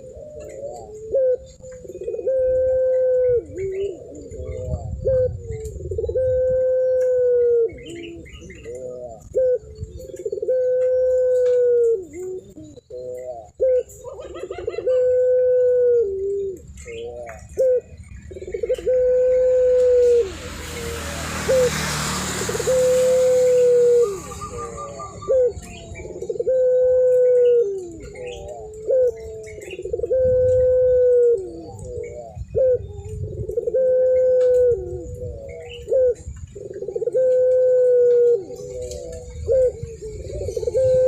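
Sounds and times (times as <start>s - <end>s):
dove cooing: 0.0s - 41.0s.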